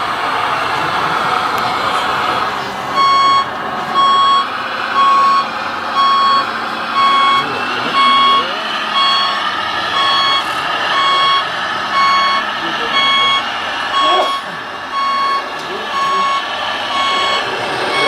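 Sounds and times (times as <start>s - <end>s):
steady background noise: 0.0s - 18.0s
reversing beeper: 2.9s - 18.0s.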